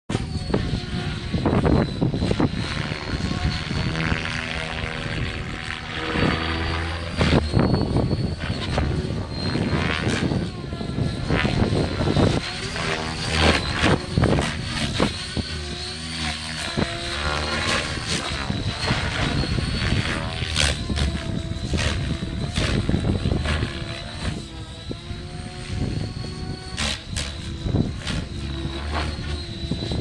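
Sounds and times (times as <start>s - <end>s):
rc helicopter whine: 0.1s - 30.0s
wind buffeting microphone: 0.1s - 30.0s.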